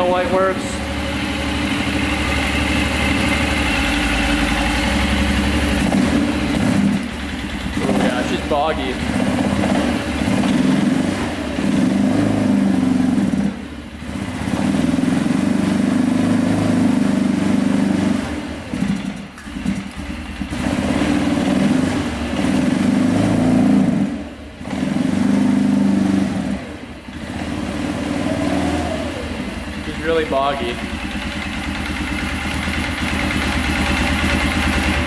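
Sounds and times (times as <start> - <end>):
engine running rough: 0.0 - 35.0.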